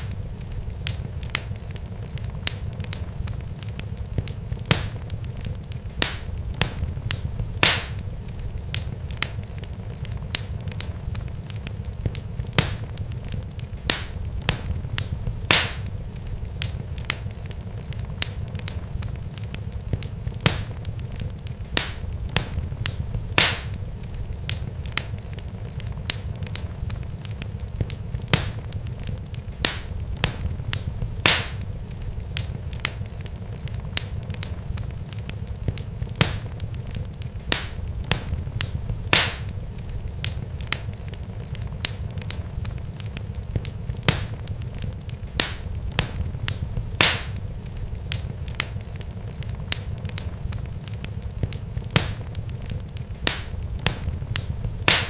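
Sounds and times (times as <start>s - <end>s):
crackling pops and snaps: 0.0s - 55.0s
steady low rumble: 0.0s - 55.0s.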